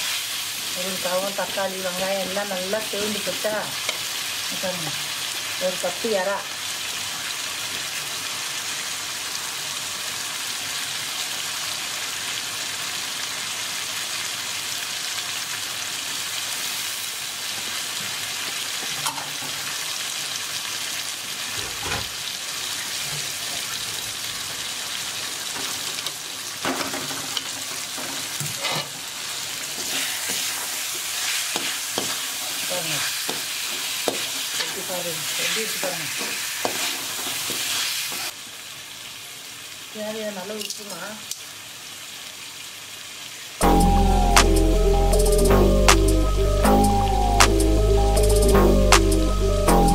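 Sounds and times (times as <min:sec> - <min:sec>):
food sizzling in hot oil: 0:00.0 - 0:43.6.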